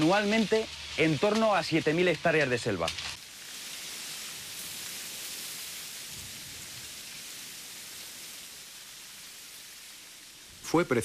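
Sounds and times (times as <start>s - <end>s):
outdoor ambient hiss: 0.0s - 11.0s.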